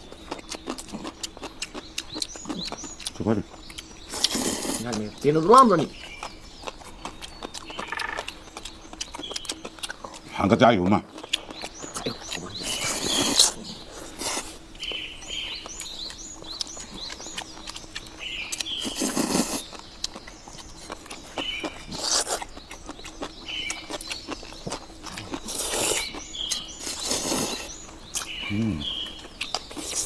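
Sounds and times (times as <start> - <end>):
people chewing and crunching food: 0.0 - 30.0
bird chirps: 0.9 - 30.0.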